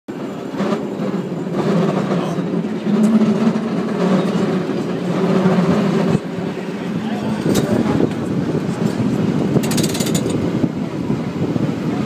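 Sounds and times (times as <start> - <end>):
cable car rumbling on rails: 0.1 - 12.0.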